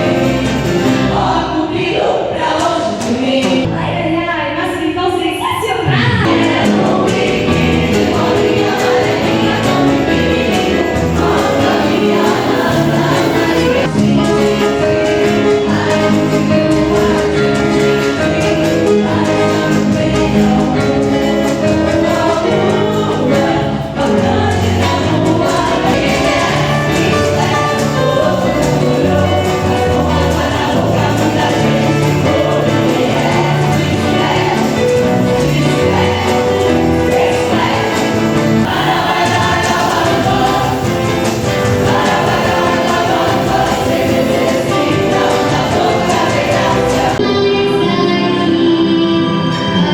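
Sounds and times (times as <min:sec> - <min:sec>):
choir singing gospel song: 0:00.0 - 0:47.9
instrumental backing: 0:05.8 - 0:49.9.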